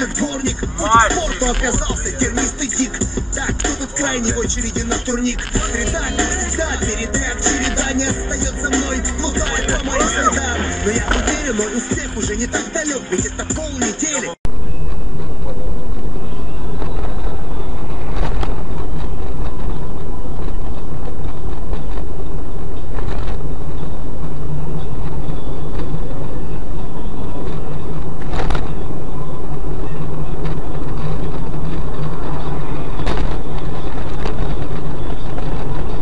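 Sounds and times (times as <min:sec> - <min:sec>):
car driving drone: 0:00.0 - 0:36.0.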